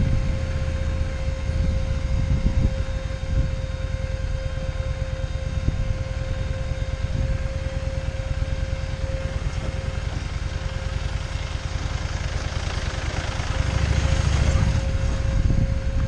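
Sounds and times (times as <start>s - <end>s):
motorcycle engine running: 0.0s - 16.0s
steady whine: 0.0s - 16.0s.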